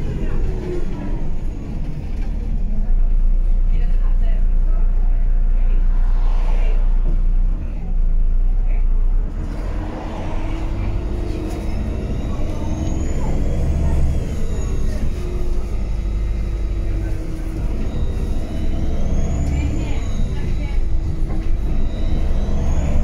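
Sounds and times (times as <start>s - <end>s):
bus diesel engine running: 0.0s - 23.0s
road and body noise: 0.0s - 23.0s.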